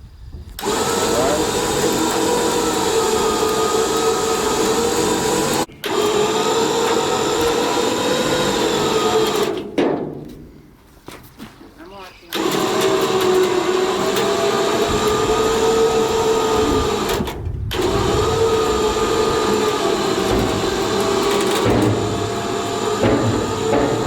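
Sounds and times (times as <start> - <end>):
motor whining: 0.6 - 9.7, 12.3 - 24.0.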